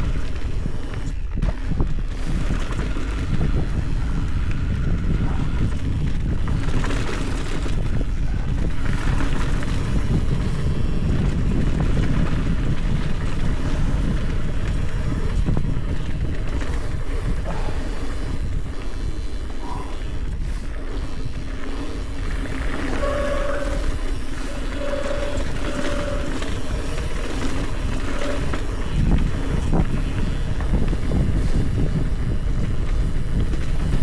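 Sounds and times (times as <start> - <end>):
bike rattling: 0.0 - 34.0
tyre noise on loose dirt: 0.0 - 34.0
wind buffeting microphone: 0.0 - 34.0.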